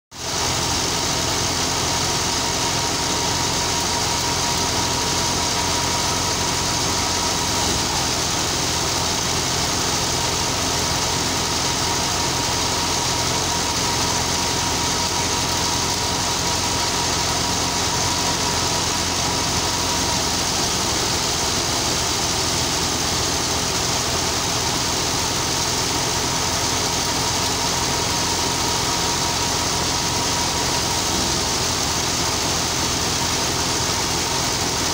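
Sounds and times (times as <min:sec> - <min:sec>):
diesel tractor engine running: 0:00.2 - 0:34.9.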